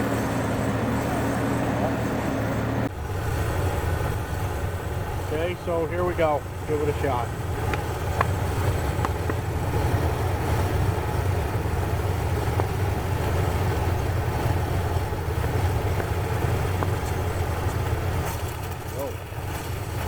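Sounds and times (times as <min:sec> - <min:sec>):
rough engine idling: 0:00.0 - 0:20.0.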